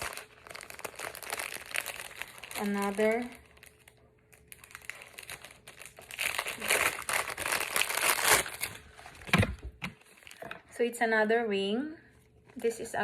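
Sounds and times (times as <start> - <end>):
packaging crinkling: 0.0 - 10.5.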